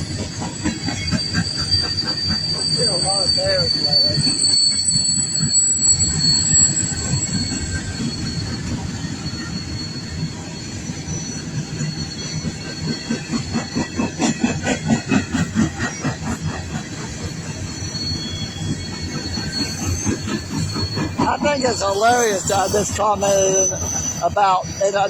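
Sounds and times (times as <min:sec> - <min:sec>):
wheel squeal: 0:00.0 - 0:25.0.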